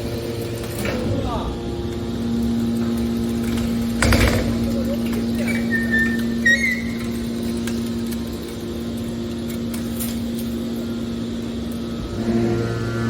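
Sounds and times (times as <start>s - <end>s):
baler motor humming: 0.0s - 13.0s.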